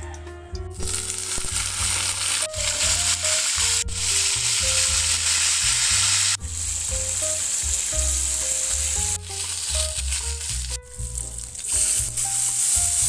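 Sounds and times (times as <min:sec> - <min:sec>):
music with bass and melody: 0:00.0 - 0:13.0
meat sizzling in a pan: 0:00.8 - 0:13.0.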